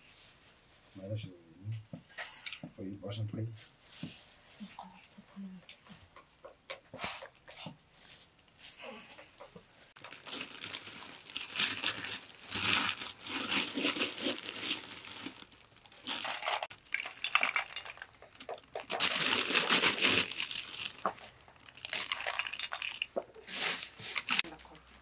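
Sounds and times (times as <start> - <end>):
rustling and crinkling: 0.0 - 25.0.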